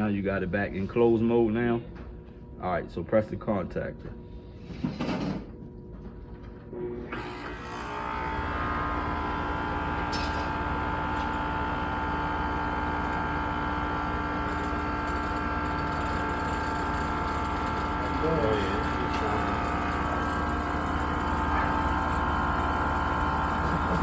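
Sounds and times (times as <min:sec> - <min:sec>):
air conditioner compressor humming: 0:00.0 - 0:24.0.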